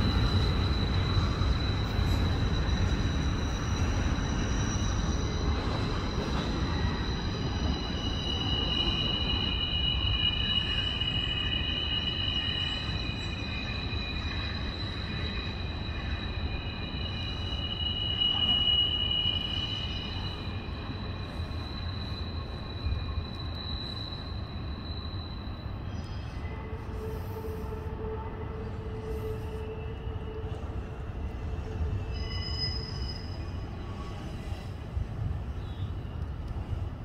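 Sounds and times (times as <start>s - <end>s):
wheel flange squeal: 0.0s - 30.6s, 31.6s - 34.8s
train wheels rumbling on rail: 0.0s - 37.0s.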